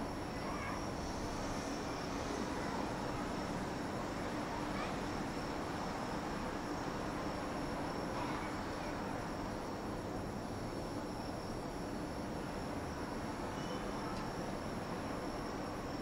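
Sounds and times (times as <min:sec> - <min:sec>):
distant town noise: 0:00.0 - 0:16.0
high insect trill: 0:00.0 - 0:16.0.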